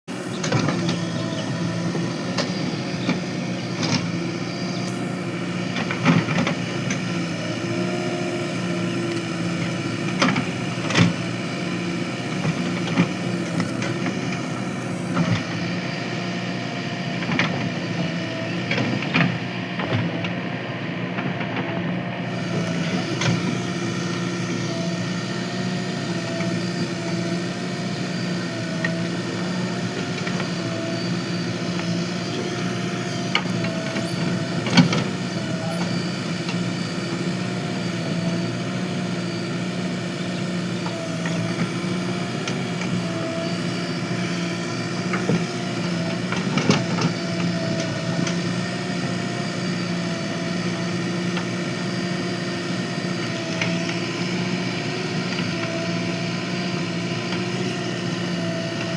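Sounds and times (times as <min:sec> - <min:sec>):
backhoe diesel engine running: 0:00.0 - 0:58.9.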